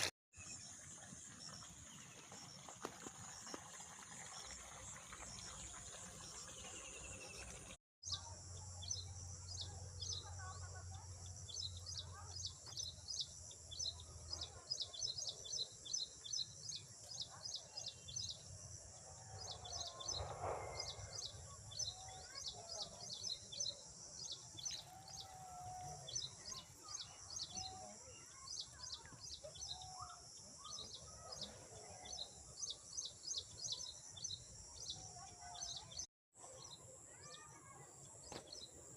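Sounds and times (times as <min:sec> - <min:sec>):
small birds chirping: 0:04.4 - 0:18.5, 0:19.4 - 0:38.9.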